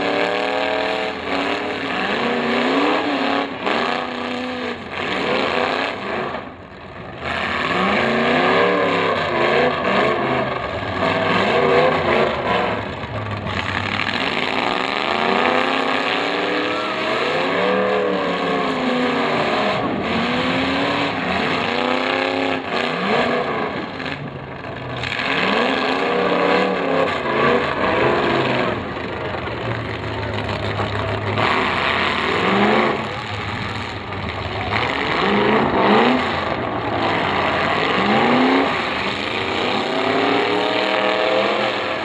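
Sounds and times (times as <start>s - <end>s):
car engines revving: 0.0s - 42.0s
cars ramming each other: 0.0s - 42.0s.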